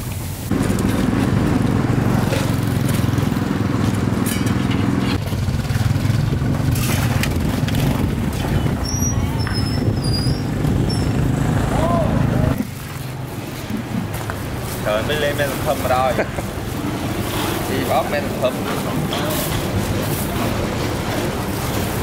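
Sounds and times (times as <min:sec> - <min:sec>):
street noise: 0:00.0 - 0:22.0
engine running: 0:00.4 - 0:22.0.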